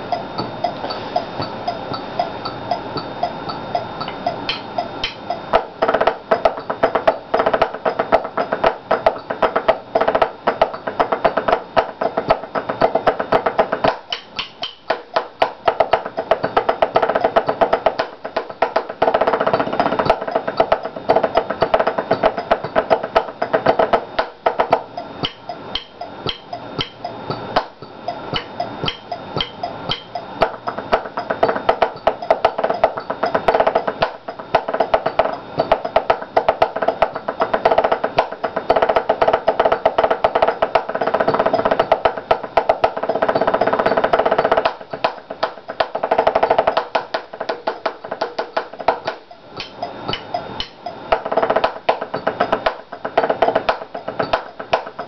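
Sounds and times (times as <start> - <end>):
sticks drumming on practice pad: 0.0 - 55.0.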